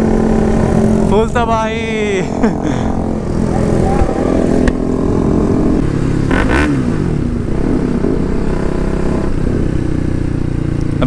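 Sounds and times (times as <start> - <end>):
motorcycle engine running loud: 0.0 - 11.0.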